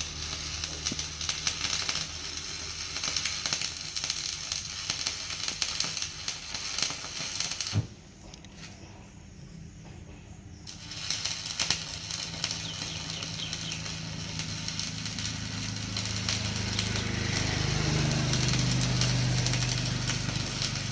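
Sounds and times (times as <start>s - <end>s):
welding arc crackling: 0.0s - 8.2s, 10.7s - 20.9s.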